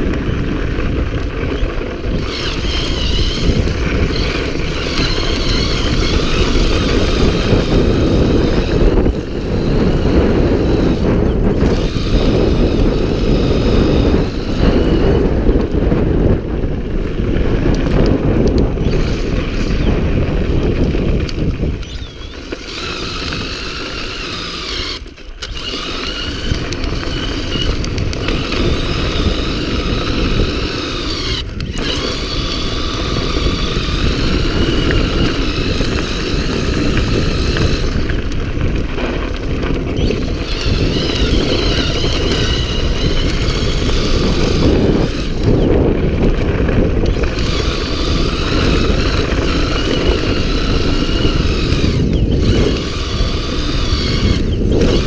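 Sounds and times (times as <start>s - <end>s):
electric bike motor whining: 0.0s - 55.0s
tyres rolling on dirt: 0.0s - 55.0s
wind on microphone: 0.0s - 55.0s.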